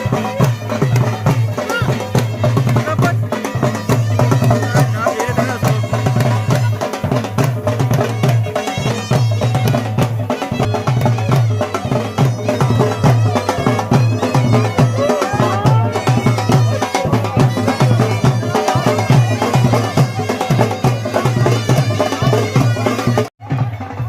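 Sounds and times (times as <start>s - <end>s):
dhol drum beating: 0.0s - 24.0s
shrill wind instrument melody: 0.0s - 24.0s.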